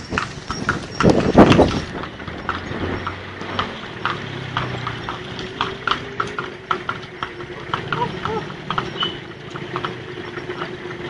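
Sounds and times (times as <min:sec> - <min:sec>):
horse hooves clip-clopping on road: 0:00.0 - 0:11.0.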